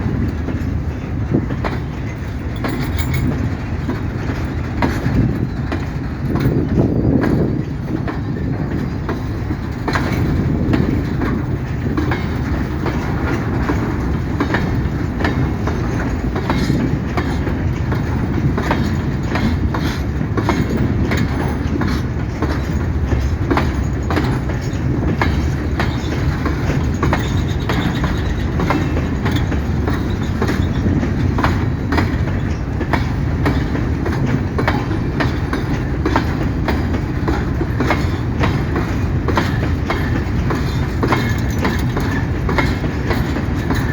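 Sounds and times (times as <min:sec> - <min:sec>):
wagons rolling with steady rumble: 0:00.0 - 0:43.9
wheels clicking over rail joints: 0:00.0 - 0:43.9.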